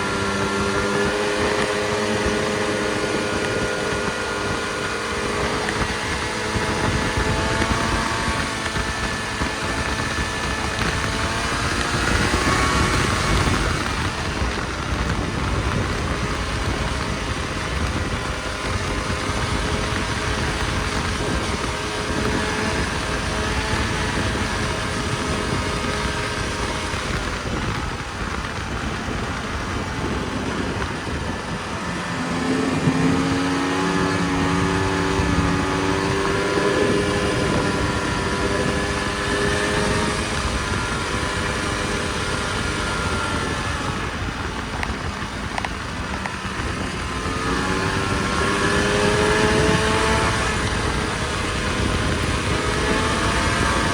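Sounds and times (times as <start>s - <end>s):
snowmobile engine running: 0.0s - 53.9s
steady rushing noise: 0.0s - 53.9s.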